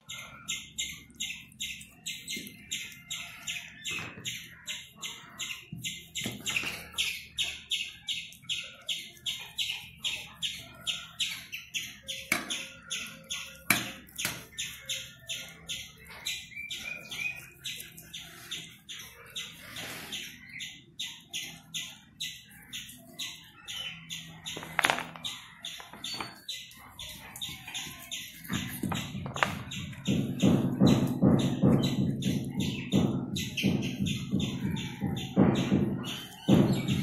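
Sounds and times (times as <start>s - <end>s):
small bird chirping: 0.0s - 37.0s.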